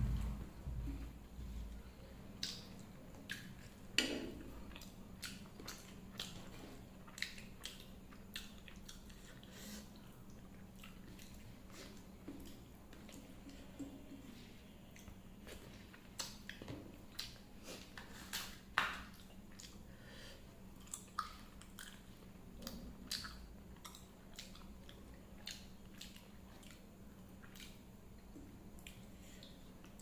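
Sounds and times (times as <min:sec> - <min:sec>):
person chewing food: 0:01.8 - 0:20.0, 0:20.7 - 0:30.0.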